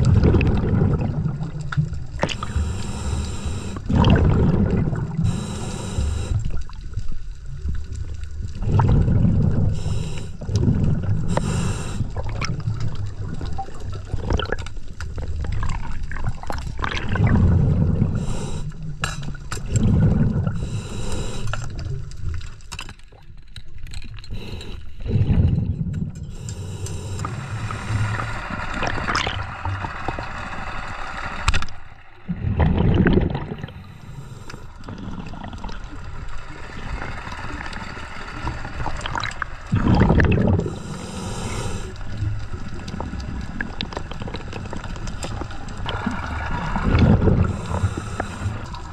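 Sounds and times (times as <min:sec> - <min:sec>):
exhaled bubbles gurgling underwater: 0:00.0 - 0:23.2, 0:24.4 - 0:48.9.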